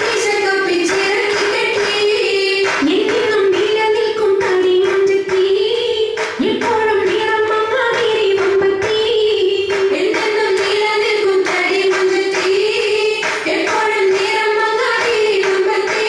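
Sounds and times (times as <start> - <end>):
rhythmic handclaps: 0.0 - 16.0
women singing: 0.0 - 16.0.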